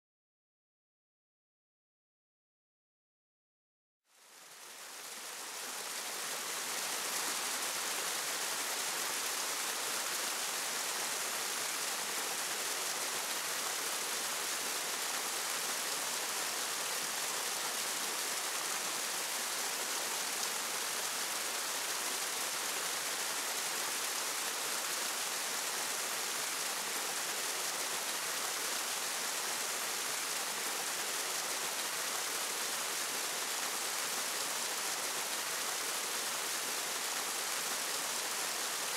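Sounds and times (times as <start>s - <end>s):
water rushing over a dam spillway: 4.2s - 38.9s.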